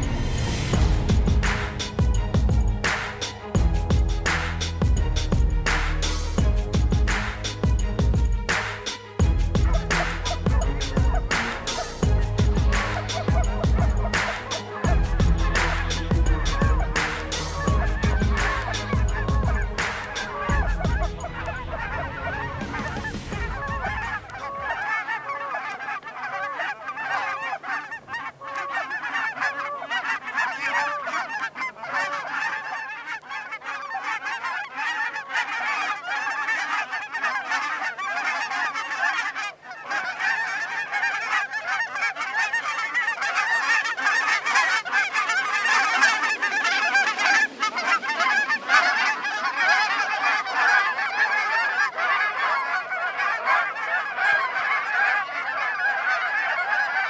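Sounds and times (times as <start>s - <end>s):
geese honking: 0.0s - 57.0s.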